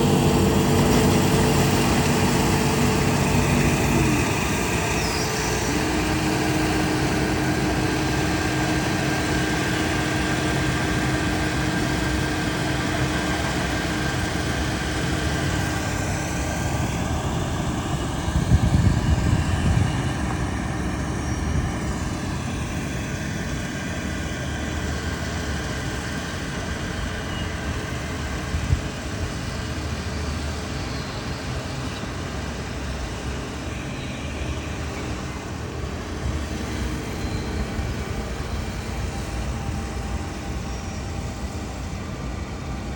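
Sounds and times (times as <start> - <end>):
combine harvester engine running: 0.0 - 42.9
steady machine whine: 0.0 - 42.9.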